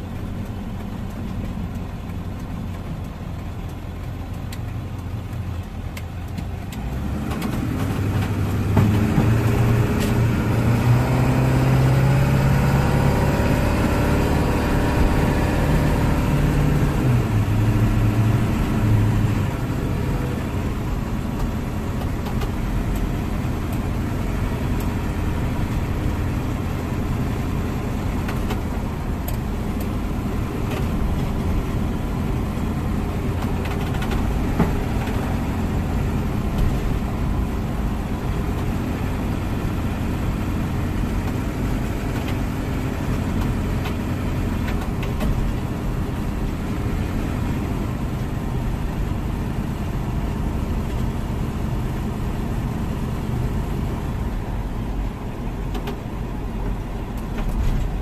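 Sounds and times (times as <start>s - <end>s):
car engine: 0.0s - 58.0s.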